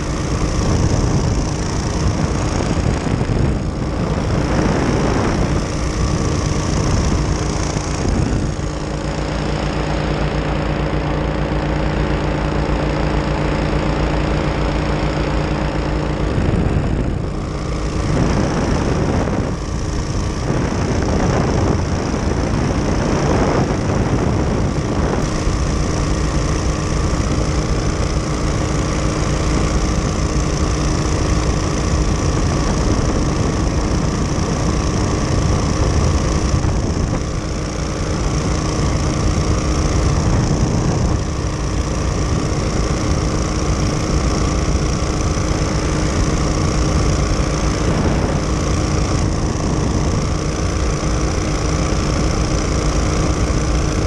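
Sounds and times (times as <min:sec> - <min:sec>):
engine and propeller drone: 0:00.0 - 0:54.0.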